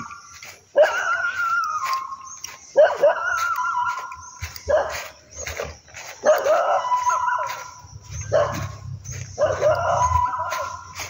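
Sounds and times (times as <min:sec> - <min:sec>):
dog barking: 0:00.7 - 0:02.0, 0:02.6 - 0:11.0.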